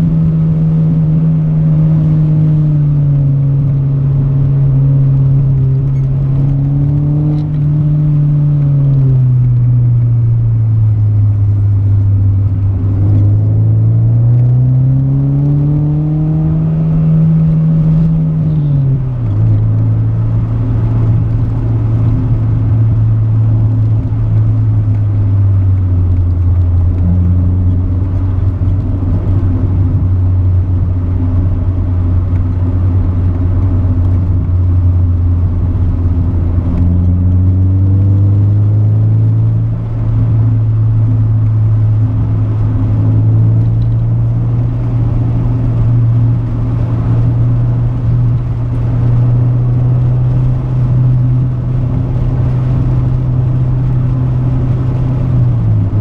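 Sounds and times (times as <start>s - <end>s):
car engine rumbling while driving: 0.0s - 56.0s.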